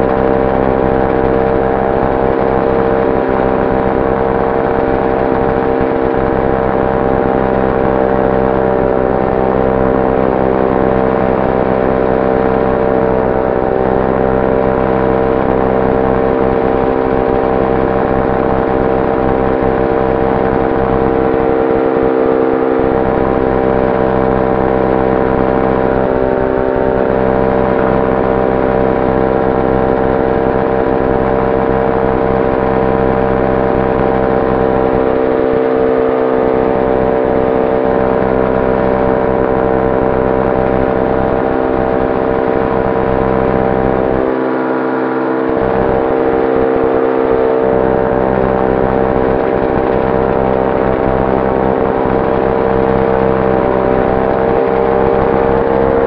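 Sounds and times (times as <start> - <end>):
aircraft motor and propeller drone: 0.0 - 56.0.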